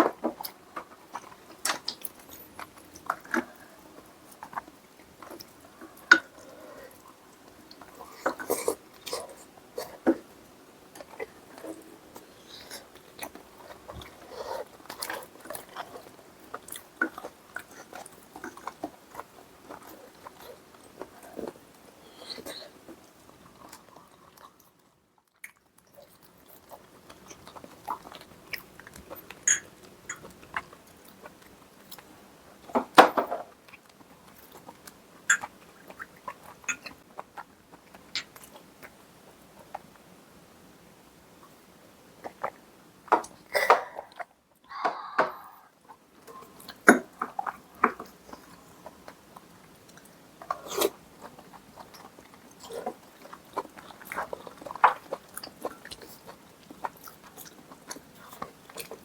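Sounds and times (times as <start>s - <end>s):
chewing and crunching: 0.0s - 44.3s, 45.8s - 59.0s.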